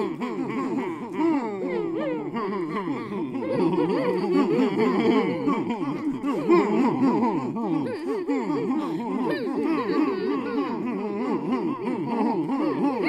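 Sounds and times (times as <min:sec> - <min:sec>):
voices laughing and chattering: 0:00.0 - 0:13.0.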